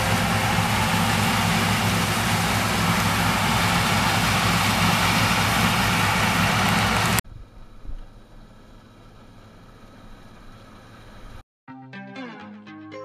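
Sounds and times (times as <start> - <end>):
harvest machinery engine running: 0.0 - 11.4.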